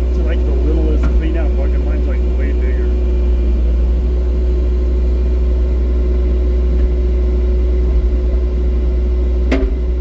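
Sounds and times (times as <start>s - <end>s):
muffled diesel engine rumbling: 0.0s - 10.0s.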